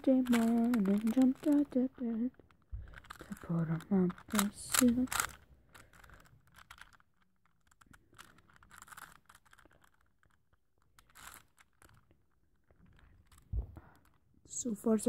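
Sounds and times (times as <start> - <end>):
puzzle cube clicking and scraping: 0.0 - 15.0.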